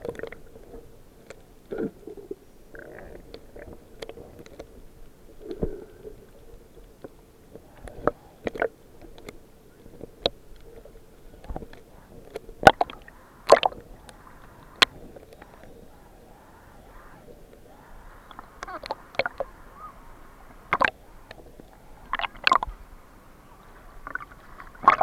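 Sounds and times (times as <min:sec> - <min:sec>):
water sloshing and gurgling: 0:00.0 - 0:25.0.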